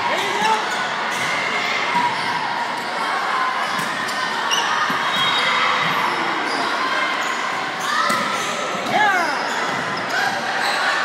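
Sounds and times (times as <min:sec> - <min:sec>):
murmur of many voices: 0:00.0 - 0:11.0.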